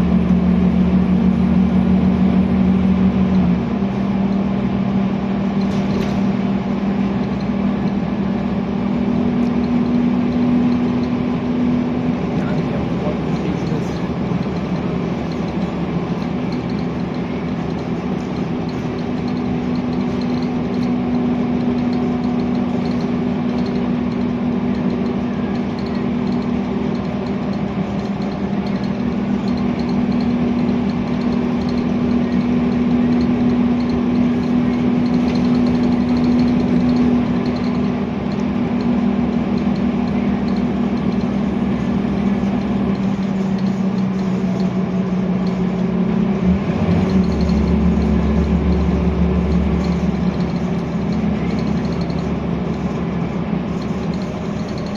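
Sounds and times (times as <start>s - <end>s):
bus diesel engine droning: 0.0s - 54.9s.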